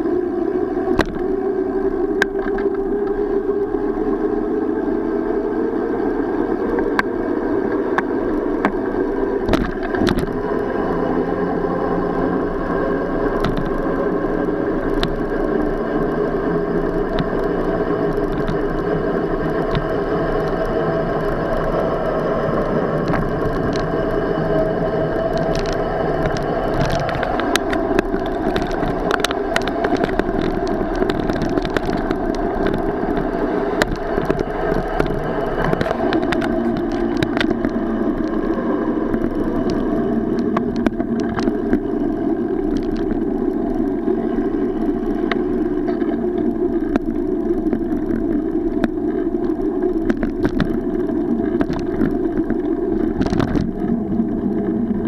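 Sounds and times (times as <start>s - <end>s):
bicycle tyres on brick pavers: 0.0s - 55.0s.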